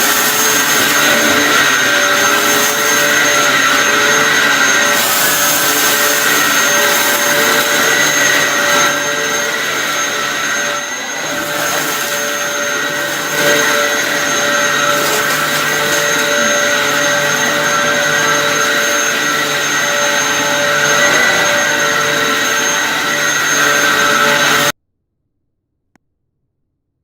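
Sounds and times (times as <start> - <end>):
vacuum cleaner whining: 0.0 - 24.8.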